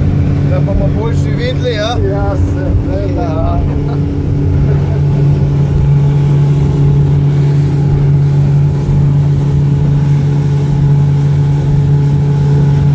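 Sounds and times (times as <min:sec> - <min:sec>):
outboard engine drone: 0:00.0 - 0:12.9
wind and water rushing: 0:00.0 - 0:12.9.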